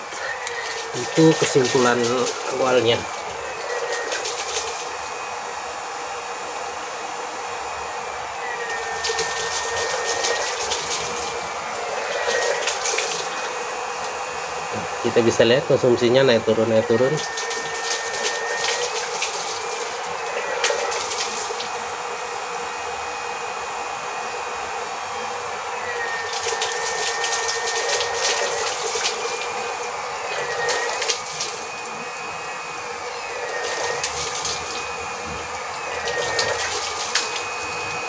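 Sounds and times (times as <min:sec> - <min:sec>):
high whine: 0:00.0 - 0:38.0
water pump whirring: 0:00.0 - 0:38.0.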